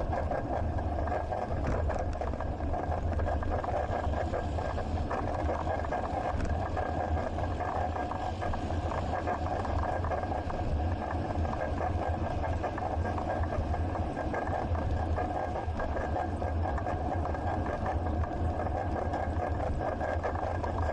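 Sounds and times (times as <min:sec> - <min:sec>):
steady hum: 0:00.0 - 0:20.9.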